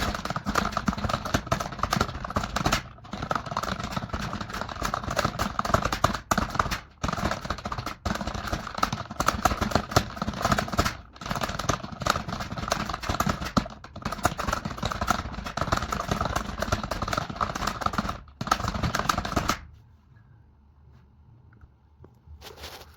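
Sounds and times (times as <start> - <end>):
fast keyboard typing: 0.0 - 19.7.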